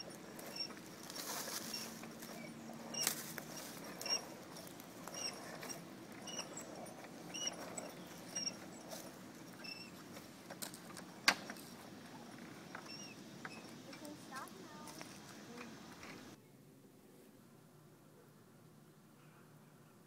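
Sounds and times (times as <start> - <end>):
handcar squeaking: 0.0 - 16.4
wheels clicking on rails: 0.0 - 16.4.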